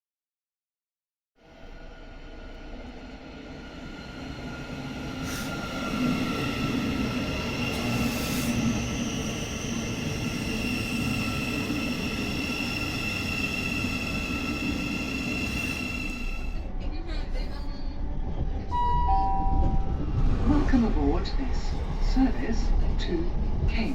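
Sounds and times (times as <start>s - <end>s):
train rumble: 1.5s - 23.9s.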